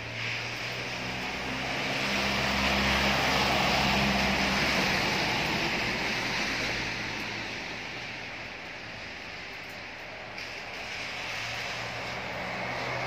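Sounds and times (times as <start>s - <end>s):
vehicle passing on wet road: 0.0s - 13.0s.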